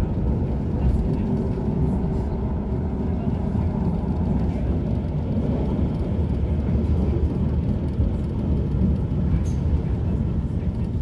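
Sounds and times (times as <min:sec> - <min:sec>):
light-rail car rumbling: 0:00.0 - 0:11.0.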